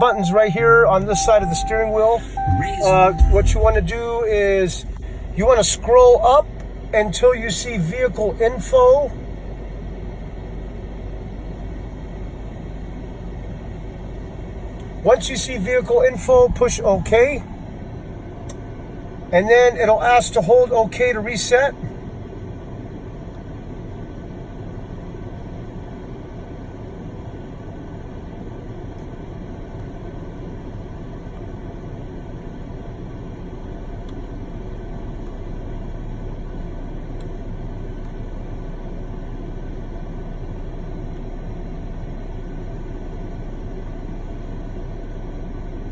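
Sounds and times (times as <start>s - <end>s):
car engine idling: 0.0s - 19.3s, 23.6s - 45.9s.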